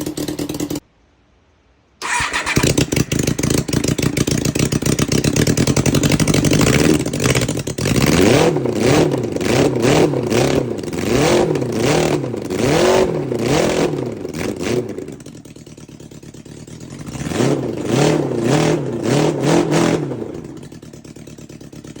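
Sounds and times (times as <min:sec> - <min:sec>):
motorcycle engine revving: 0:00.0 - 0:00.8, 0:02.0 - 0:22.0.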